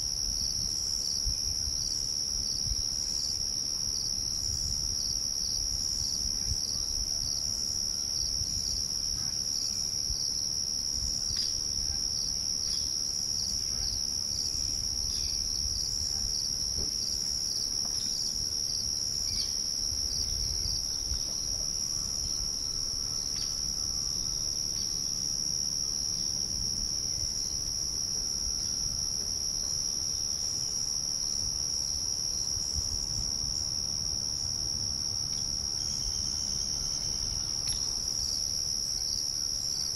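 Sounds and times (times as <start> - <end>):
crickets trilling: 0.0 - 39.9
insect chirping in pulses: 0.0 - 39.9.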